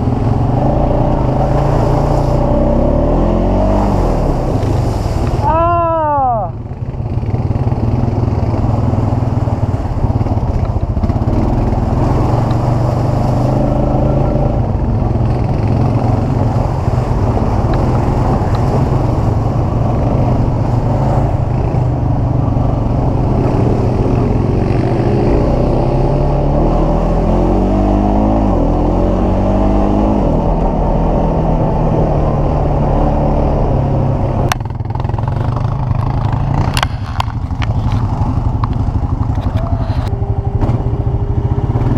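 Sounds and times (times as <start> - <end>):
atv engine running: 0.0 - 41.9.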